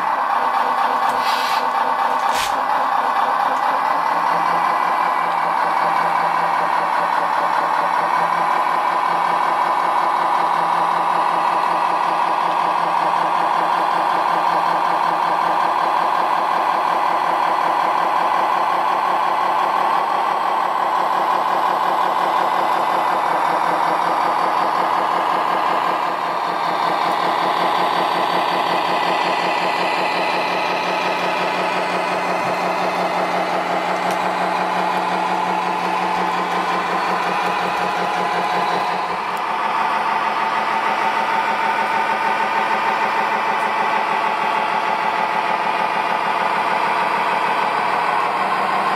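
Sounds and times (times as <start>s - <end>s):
toy truck engine: 0.0s - 48.9s.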